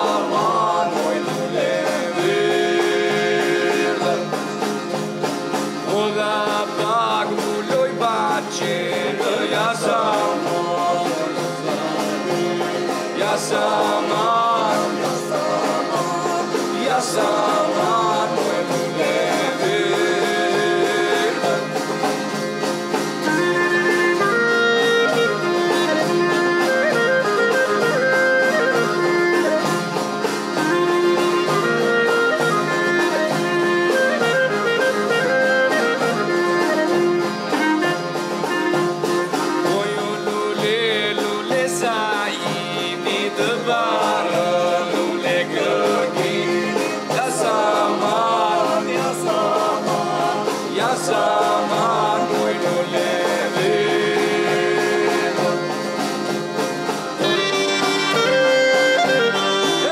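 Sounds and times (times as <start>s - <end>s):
folk band playing: 0.0s - 59.9s.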